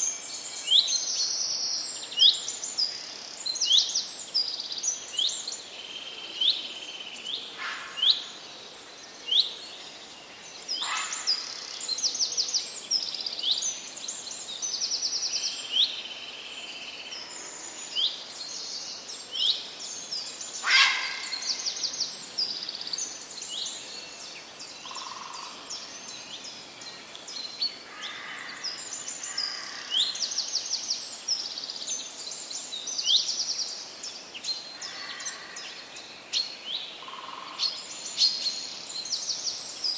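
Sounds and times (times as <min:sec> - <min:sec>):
birds singing: 0:00.0 - 0:39.9
faint steady hiss: 0:00.0 - 0:39.9.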